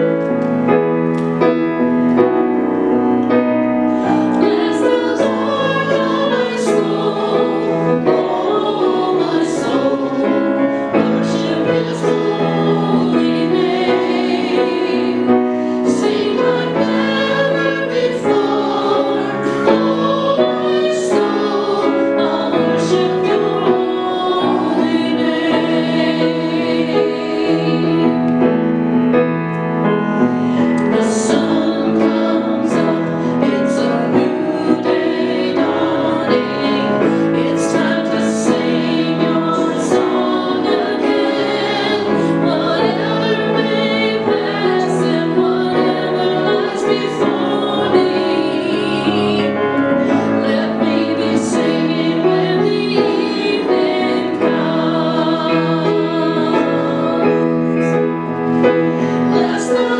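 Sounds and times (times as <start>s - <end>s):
piano accompaniment: 0.0s - 59.9s
man and woman singing a hymn: 3.8s - 28.4s, 30.7s - 59.9s.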